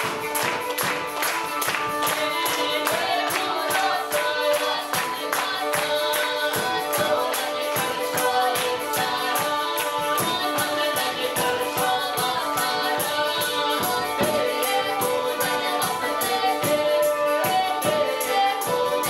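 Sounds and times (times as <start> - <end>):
even percussion beat: 0.0 - 19.0
folk ensemble melody: 0.0 - 19.0.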